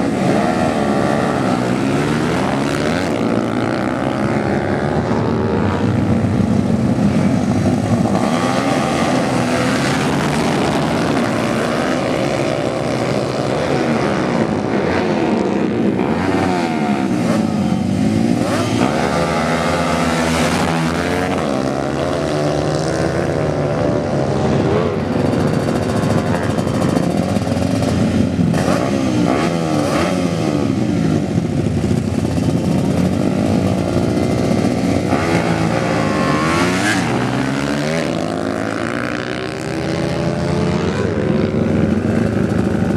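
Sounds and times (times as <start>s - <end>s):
racing motorcycle engines revving: 0.0s - 42.9s.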